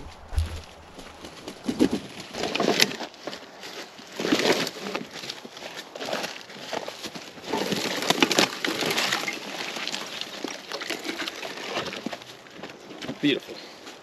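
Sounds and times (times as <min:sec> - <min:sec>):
dry leaves and twigs crunching: 0:00.0 - 0:13.0.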